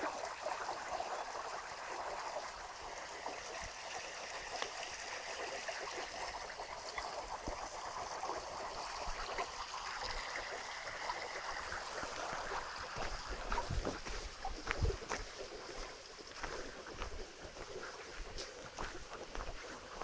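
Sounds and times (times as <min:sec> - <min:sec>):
water running in channel: 0:00.0 - 0:20.0.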